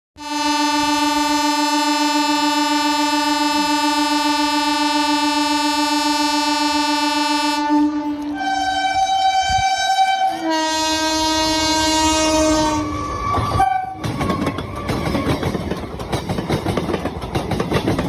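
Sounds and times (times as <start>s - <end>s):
train horn blast: 0.2s - 14.9s.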